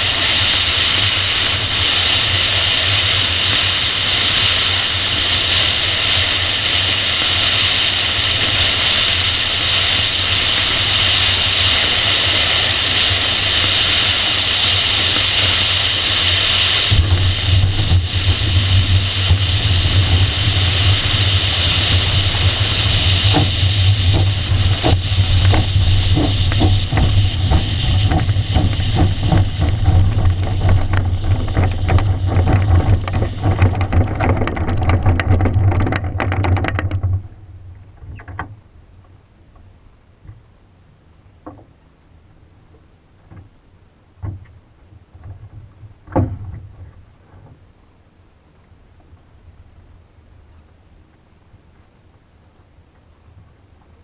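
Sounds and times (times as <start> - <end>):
knocks and rattles over rough ground: 0.0 - 40.6, 41.4 - 47.9
rush of air over glider: 0.0 - 54.0
wheel rolling on dirt rumbling: 0.0 - 54.0.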